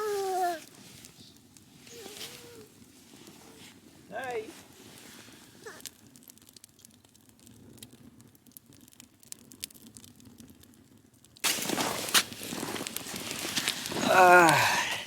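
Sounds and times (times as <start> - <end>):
faint clicks and crackles: 0.0 - 15.0.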